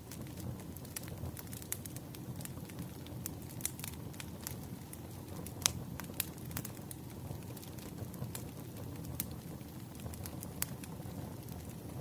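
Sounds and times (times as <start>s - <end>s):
fire snaps and pops: 0.0s - 12.0s
wood fire crackling: 0.0s - 12.0s.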